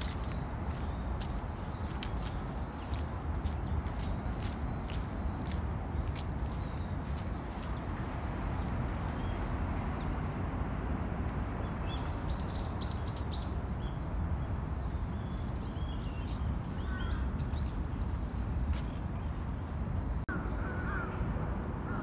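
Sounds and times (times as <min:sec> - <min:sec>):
small birds chirping: 0:00.0 - 0:10.2, 0:11.6 - 0:21.1.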